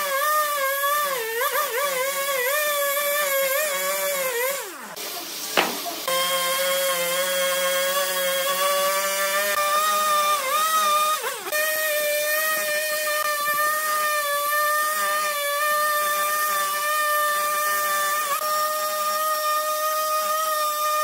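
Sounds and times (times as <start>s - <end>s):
chainsaw cutting log: 0.0s - 21.0s.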